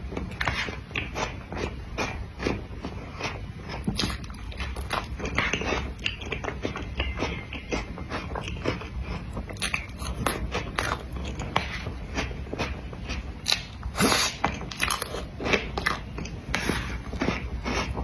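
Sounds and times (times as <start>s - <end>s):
chewing cake: 0.0s - 18.0s.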